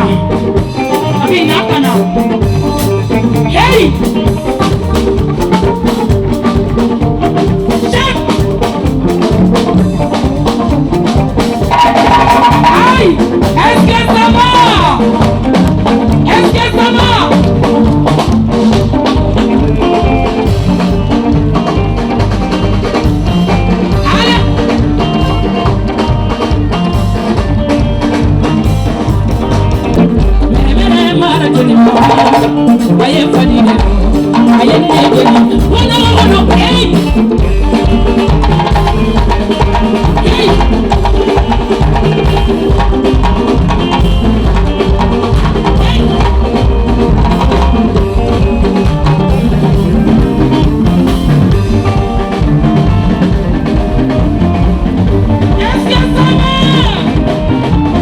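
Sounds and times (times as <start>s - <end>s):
latin dance music with singing: 0.0s - 25.9s, 26.7s - 58.0s.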